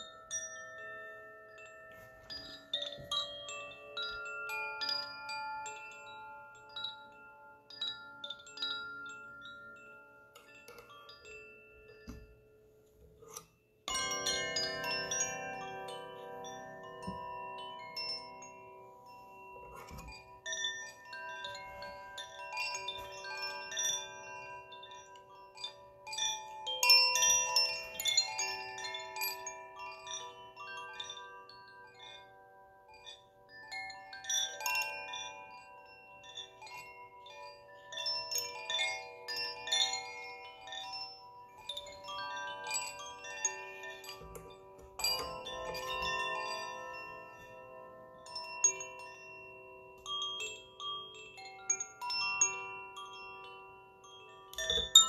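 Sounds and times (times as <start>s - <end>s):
wind chimes ringing: 0.0s - 55.0s.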